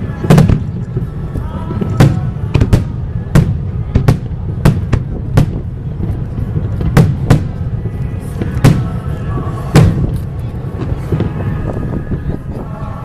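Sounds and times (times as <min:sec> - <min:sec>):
fireworks bursting: 0:00.0 - 0:12.7
steady low rumble: 0:00.0 - 0:13.0.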